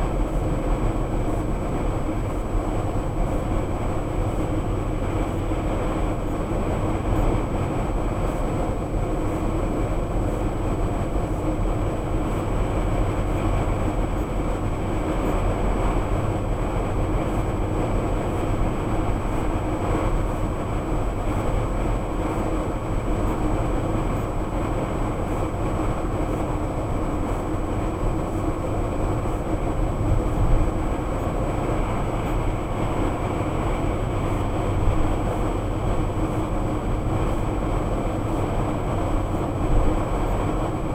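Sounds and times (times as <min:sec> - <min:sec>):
road and engine noise inside car: 0:00.0 - 0:40.9.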